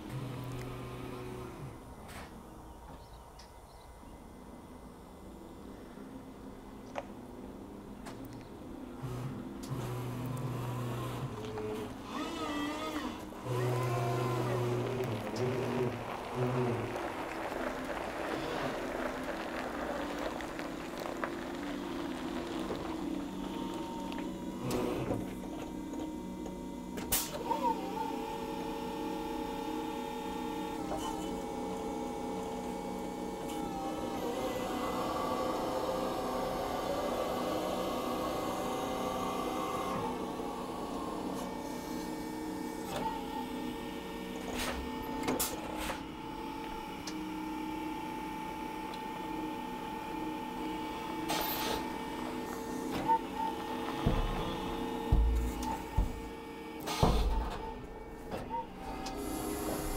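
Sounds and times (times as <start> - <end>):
electric truck humming: 0.0 - 2.8, 8.7 - 59.9.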